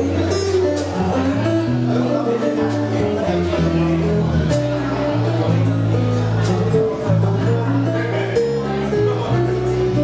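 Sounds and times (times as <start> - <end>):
jazz guitar: 0.0 - 10.0
walking bass line: 0.0 - 10.0.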